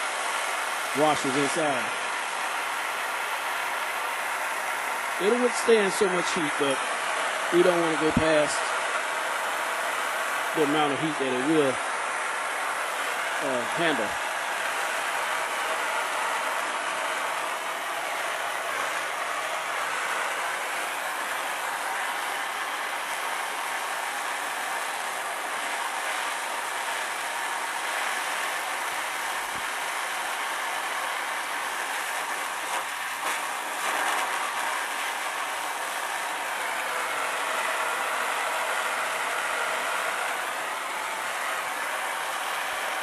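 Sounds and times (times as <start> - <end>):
torch flame hissing: 0.0 - 43.0.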